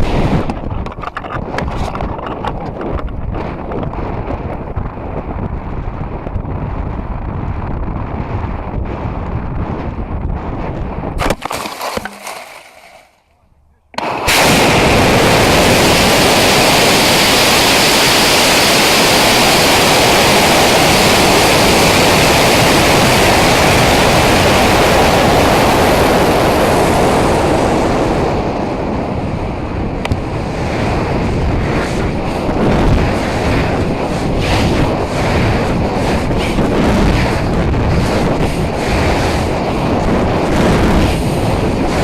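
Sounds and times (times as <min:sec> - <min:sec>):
wind rushing over microphone: 0:00.0 - 0:12.1, 0:14.0 - 0:42.0.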